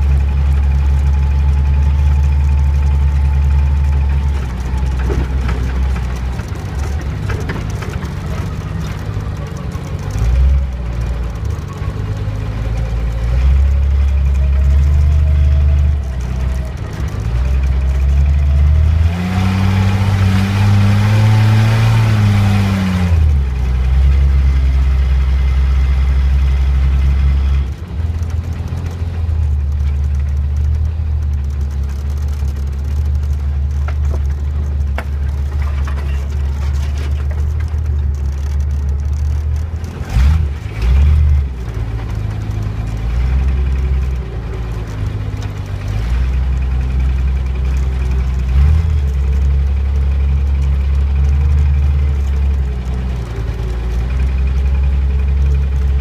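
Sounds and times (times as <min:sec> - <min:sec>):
car engine running and revving: 0:00.0 - 0:56.0.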